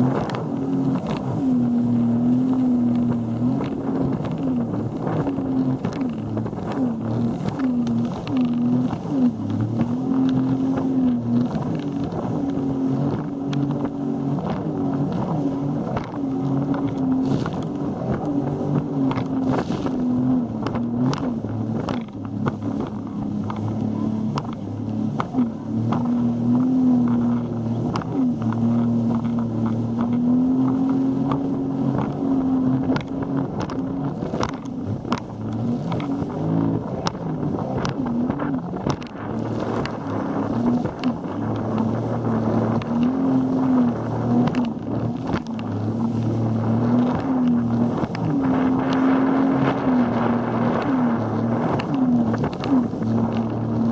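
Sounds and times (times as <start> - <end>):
boat engine running: 0.0 - 53.9
rushing water noise: 0.0 - 53.9.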